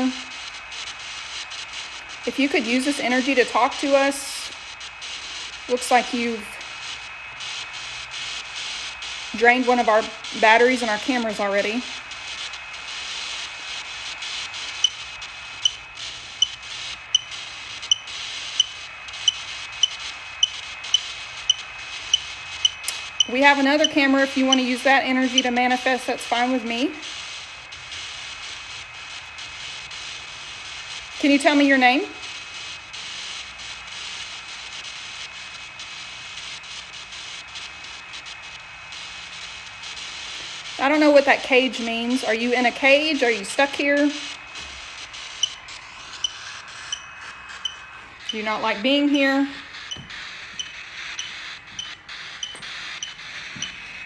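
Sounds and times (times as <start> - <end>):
hissing static: 0.0 - 54.0.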